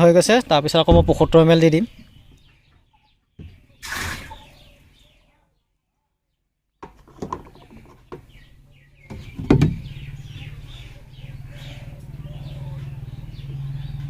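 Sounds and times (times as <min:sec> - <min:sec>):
chicks cheeping: 0:00.0 - 0:06.4, 0:07.3 - 0:14.0.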